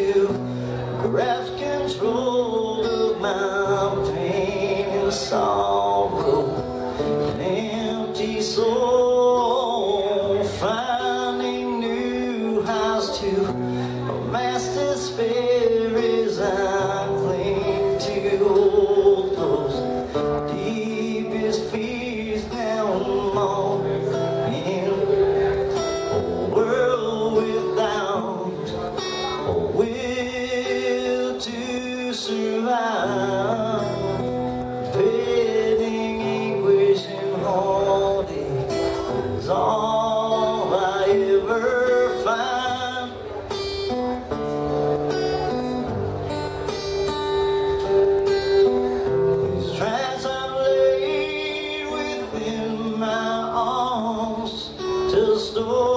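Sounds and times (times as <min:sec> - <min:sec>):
man singing: 0:00.0 - 0:44.0, 0:48.5 - 0:55.9
acoustic guitar strumming: 0:00.0 - 0:55.9.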